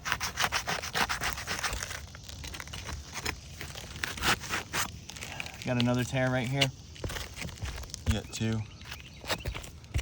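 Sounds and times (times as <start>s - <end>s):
roof shingle crackling and tearing: 0.0s - 10.0s.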